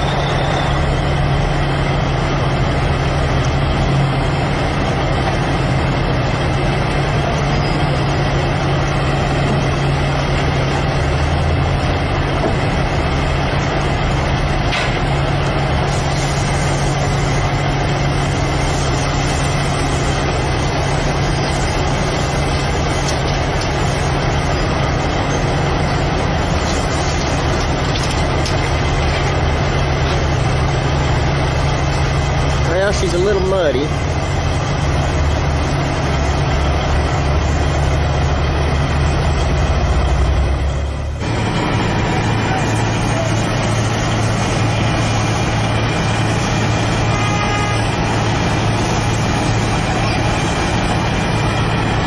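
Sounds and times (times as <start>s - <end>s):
diesel truck engine running: 0.0s - 52.0s.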